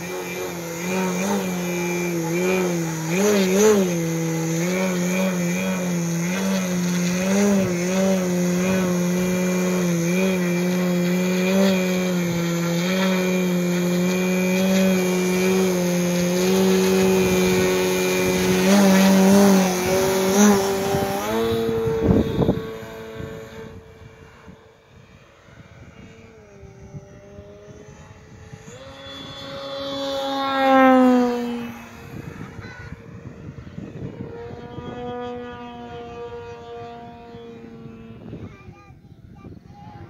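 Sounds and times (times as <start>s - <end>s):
model plane electric motor droning: 0.0s - 40.0s.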